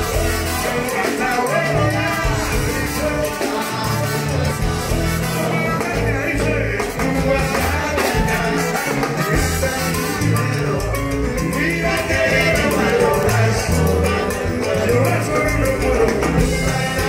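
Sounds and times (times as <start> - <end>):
bass line: 0.0 - 17.0
horns: 0.0 - 17.0
man singing: 0.0 - 17.0
salsa band playing live: 0.0 - 17.0.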